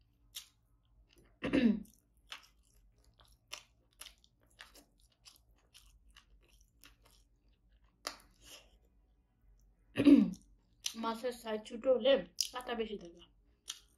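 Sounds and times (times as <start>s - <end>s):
chewing crunchy food: 0.0s - 9.7s, 10.3s - 11.1s, 12.3s - 13.9s.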